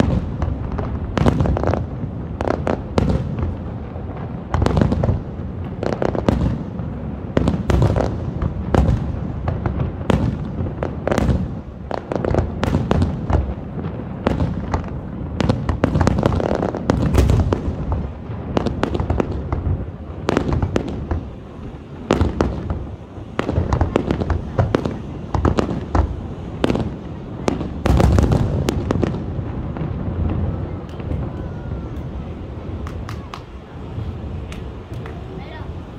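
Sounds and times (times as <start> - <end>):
fireworks bangs and cracks: 0.0 - 35.9.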